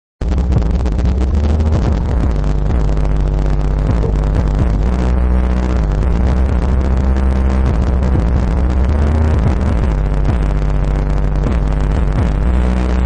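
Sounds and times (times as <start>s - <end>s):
loud music with deep bass: 0.2s - 13.0s.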